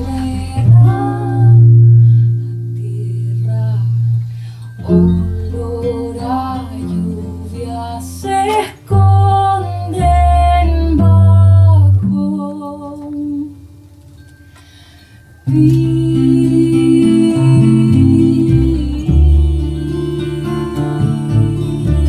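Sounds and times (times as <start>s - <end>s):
steel-string acoustic guitar: 0.0s - 13.3s, 13.9s - 22.0s
woman singing: 0.0s - 13.8s, 15.5s - 22.0s
classical guitar: 0.0s - 14.0s, 15.4s - 22.0s
double bass low notes: 0.0s - 14.0s, 15.4s - 22.0s.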